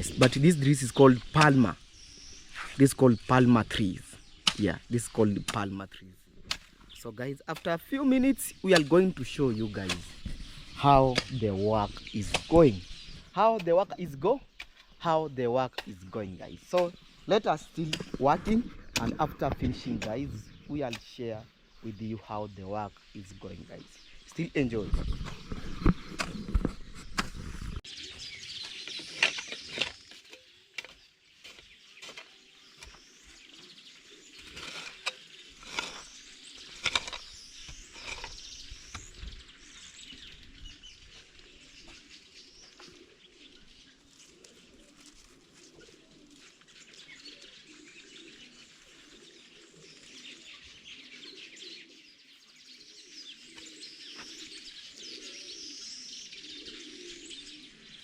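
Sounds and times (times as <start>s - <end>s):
birds chirping: 0.0s - 58.0s
doves cooing: 0.0s - 58.0s.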